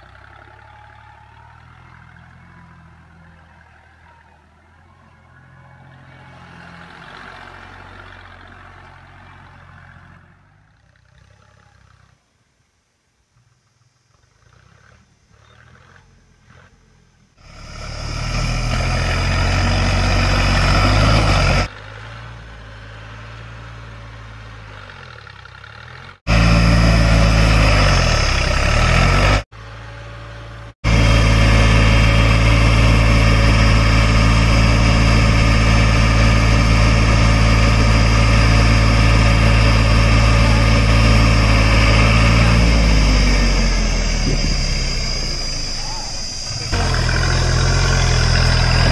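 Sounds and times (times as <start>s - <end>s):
tractor diesel engine running: 0.0s - 12.0s, 14.6s - 48.9s.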